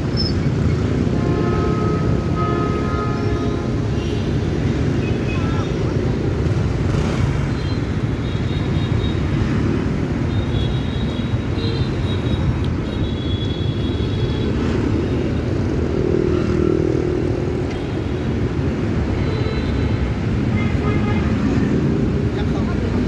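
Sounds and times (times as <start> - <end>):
cars passing: 0.0 - 23.0
motorcycle engines: 0.0 - 23.0
road rumble: 0.0 - 23.0.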